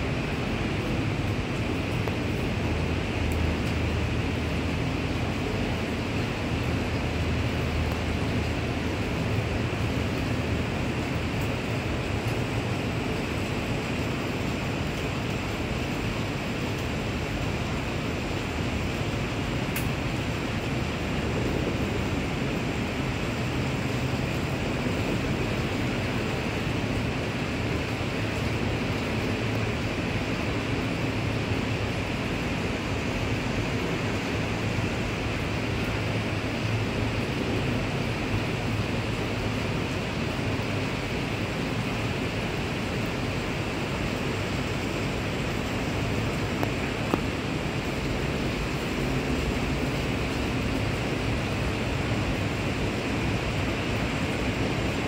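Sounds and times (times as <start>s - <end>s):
low city rumble: 0.0s - 55.0s
rain hissing: 0.0s - 55.0s.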